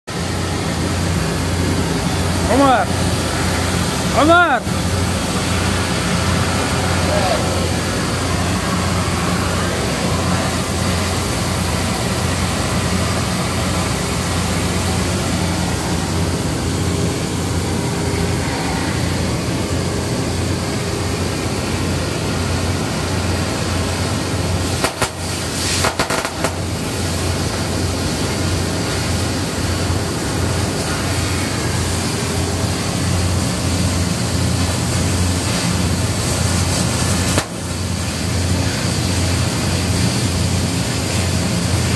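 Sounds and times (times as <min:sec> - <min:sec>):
machinery drone: 0:00.1 - 0:41.9
cutting torch hissing: 0:00.2 - 0:41.9.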